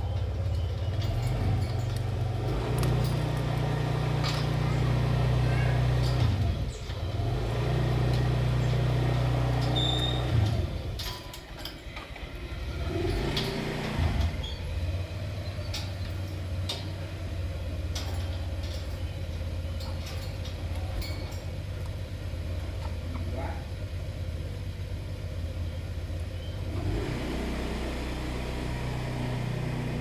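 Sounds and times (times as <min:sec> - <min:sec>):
engine-like hum: 0:00.0 - 0:30.0.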